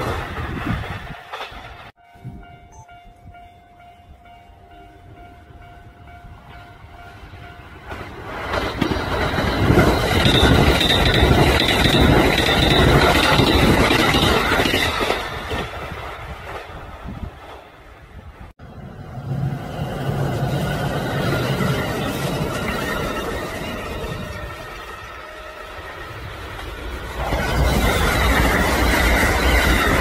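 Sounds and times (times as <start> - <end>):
electric train rushing by: 0.0 - 30.0.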